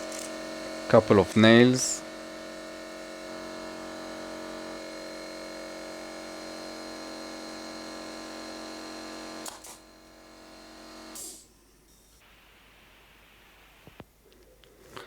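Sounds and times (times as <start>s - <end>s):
air compressor motor humming: 0.0s - 12.5s.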